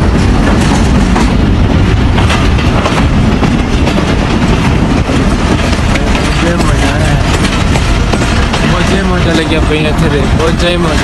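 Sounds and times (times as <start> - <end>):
train rumbling at speed: 0.0 - 11.0
wheels clattering over rails: 0.0 - 11.0.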